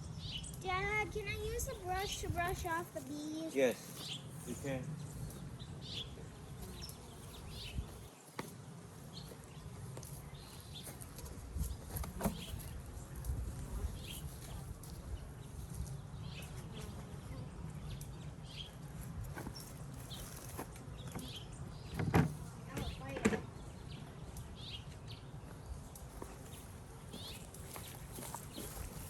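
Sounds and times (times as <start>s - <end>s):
honeybees buzzing: 0.1s - 29.0s.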